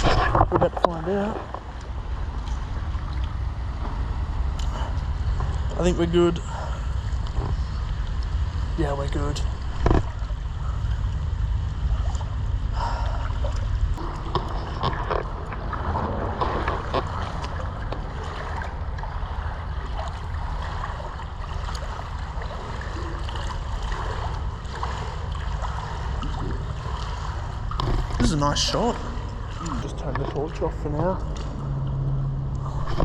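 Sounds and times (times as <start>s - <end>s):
water splashes and knocks: 0.0s - 6.1s, 7.0s - 11.2s, 11.9s - 33.0s
low rumble in drain tunnel: 0.0s - 33.0s.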